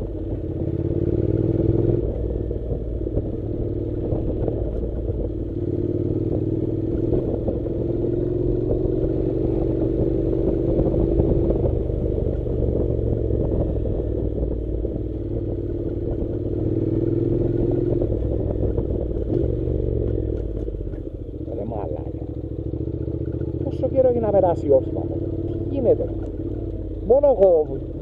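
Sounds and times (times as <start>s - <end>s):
motorcycle engine running: 0.0s - 28.0s
motorcycle rattling over bumps: 0.0s - 28.0s.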